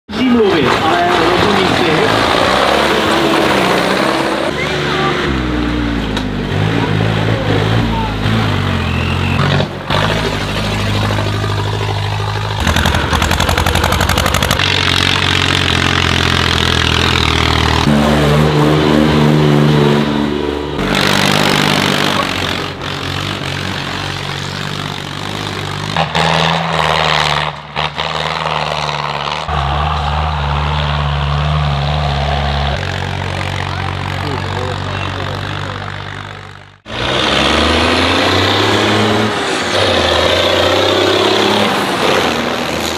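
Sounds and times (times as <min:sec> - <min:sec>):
tractor engines revving: 0:00.1 - 0:42.9.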